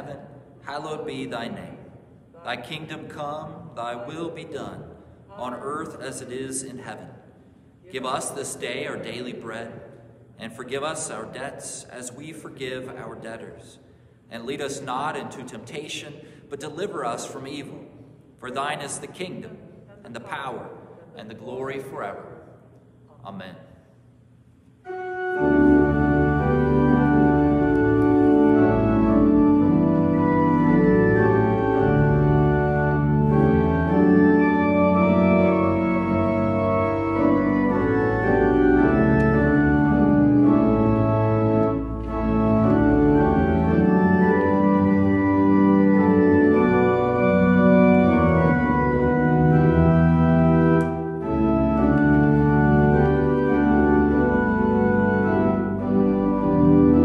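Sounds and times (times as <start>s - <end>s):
organ playing slow chords: 0.0s - 19.6s, 24.8s - 57.0s.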